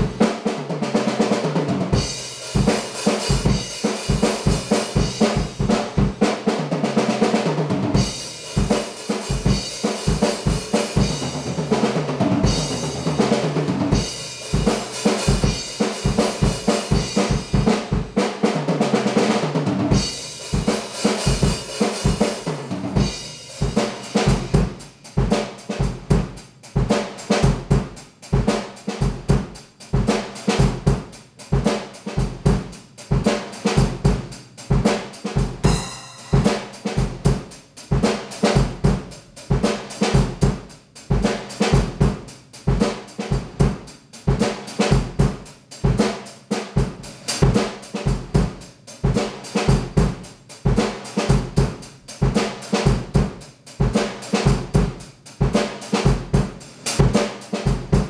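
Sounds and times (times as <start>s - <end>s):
drum kit playing steady beat: 0.0s - 58.0s.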